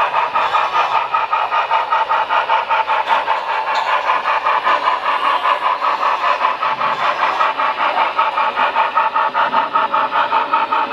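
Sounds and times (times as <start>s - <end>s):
steam locomotive chuffing from speaker: 0.0s - 10.9s.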